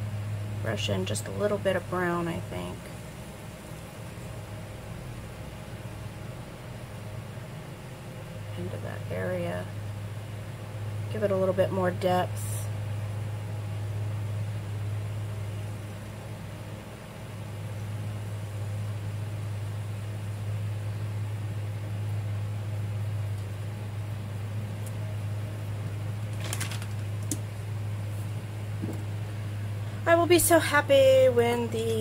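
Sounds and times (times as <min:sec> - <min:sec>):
appliance humming: 0:00.0 - 0:32.0.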